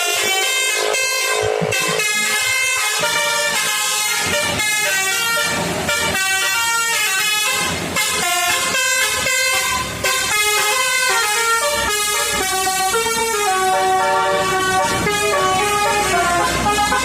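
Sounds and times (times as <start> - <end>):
bus air horn playing a tune: 0.0 - 17.0.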